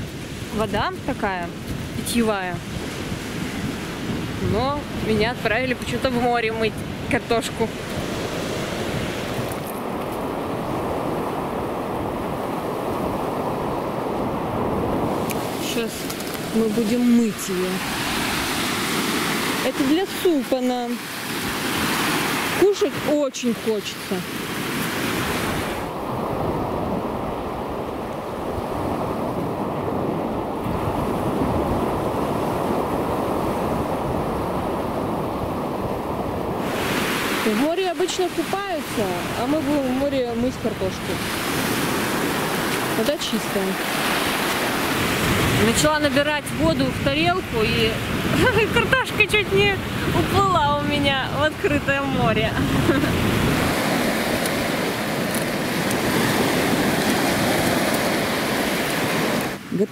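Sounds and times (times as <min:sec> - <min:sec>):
sea surf rushing: 0:00.0 - 0:59.9
wind on microphone: 0:00.0 - 0:59.9.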